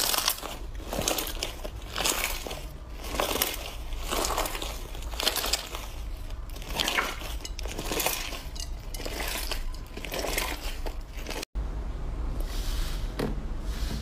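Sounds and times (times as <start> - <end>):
slime squishing: 0.0 - 11.5.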